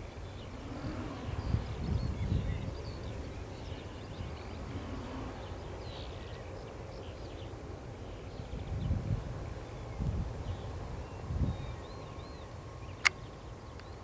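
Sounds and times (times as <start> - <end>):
birds chirping faintly: 0.0 - 14.0
wind buffeting microphone: 0.0 - 14.0.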